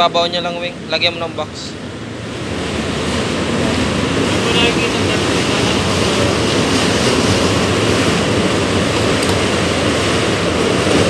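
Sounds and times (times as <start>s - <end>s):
loud rushing noise: 0.7s - 11.0s.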